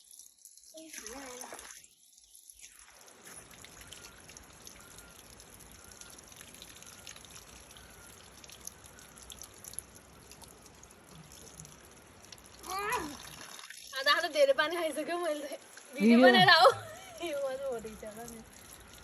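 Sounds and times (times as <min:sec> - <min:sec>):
water trickling from spring spout: 0:00.0 - 0:19.0.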